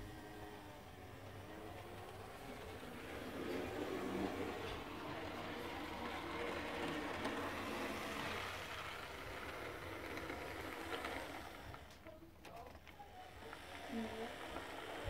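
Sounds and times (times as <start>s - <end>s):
model locomotive running on track: 0.0s - 15.0s.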